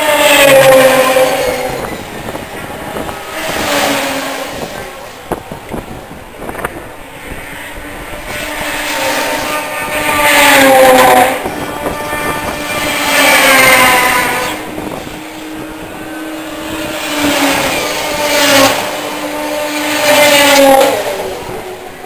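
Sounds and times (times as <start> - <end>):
snowmobile engines screaming past: 0.0 - 5.2, 7.2 - 22.0
distant snowmobile drone: 0.0 - 22.0.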